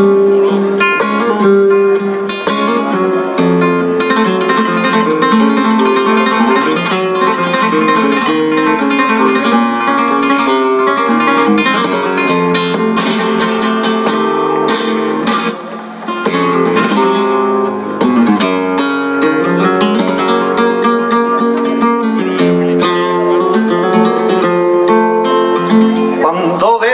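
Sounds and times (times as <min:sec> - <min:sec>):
flamenco guitar solo: 0:00.0 - 0:26.9.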